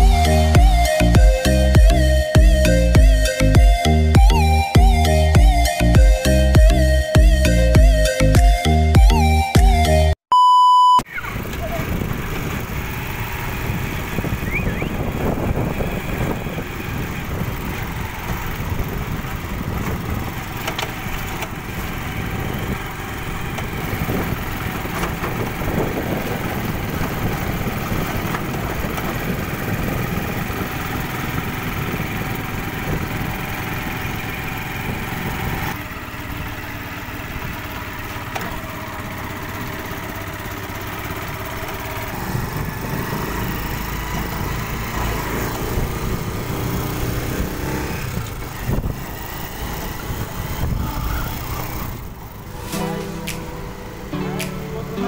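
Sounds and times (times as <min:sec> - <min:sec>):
motorcycle engine running: 0:00.0 - 0:09.8, 0:11.1 - 0:55.0.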